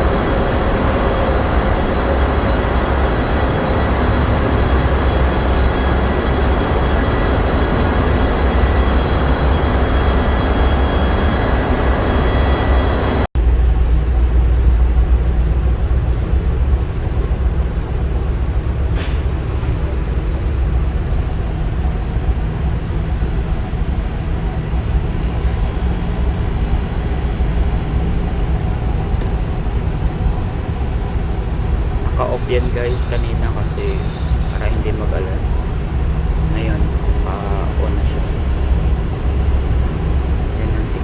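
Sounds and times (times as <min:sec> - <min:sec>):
generator engine rumbling: 0:00.0 - 0:41.0
high steady whining tones: 0:00.0 - 0:41.0.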